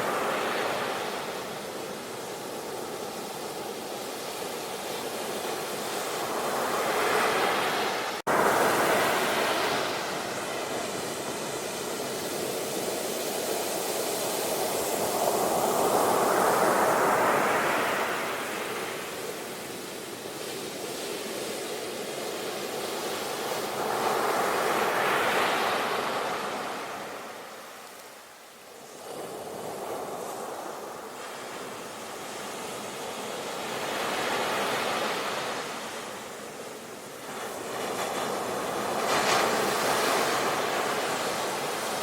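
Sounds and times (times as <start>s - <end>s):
ocean waves washing in: 0.0s - 42.0s.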